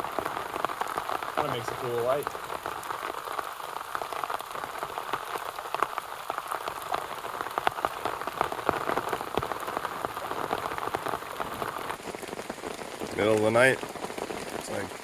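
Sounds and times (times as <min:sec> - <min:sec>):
rain on tent fabric: 0:00.0 - 0:15.0.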